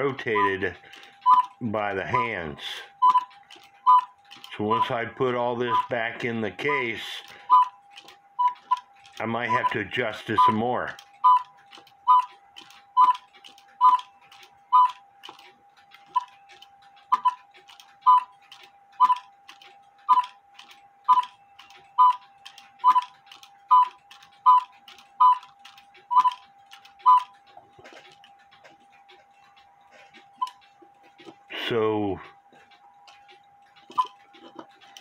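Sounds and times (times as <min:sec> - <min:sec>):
clock ticking: 0:00.0 - 0:35.0.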